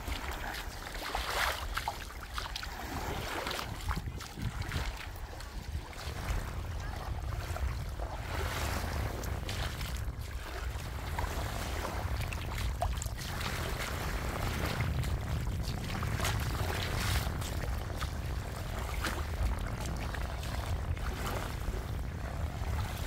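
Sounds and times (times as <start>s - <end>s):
sea water washing at shoreline: 0.0s - 23.0s.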